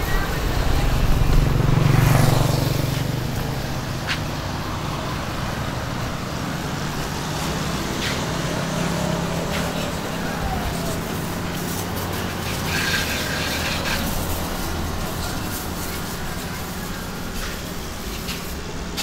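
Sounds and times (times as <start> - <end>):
constant hiss: 0.0 - 19.0
passing vehicle: 0.0 - 19.0
spray gun jetting water: 0.0 - 19.0.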